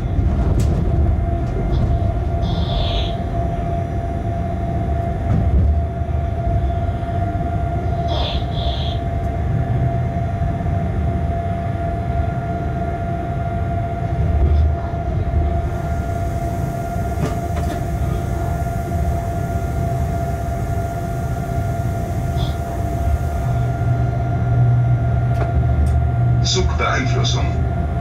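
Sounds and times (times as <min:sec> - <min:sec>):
constant hum: 0:00.0 - 0:28.0
locomotive rumbling on track: 0:00.0 - 0:28.0.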